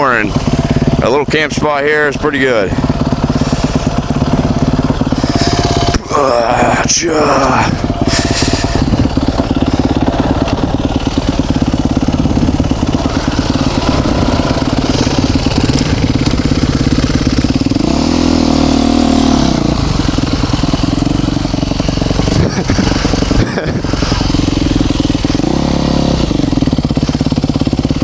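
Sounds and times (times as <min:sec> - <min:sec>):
dirt bike engine idling: 0:00.0 - 0:28.0.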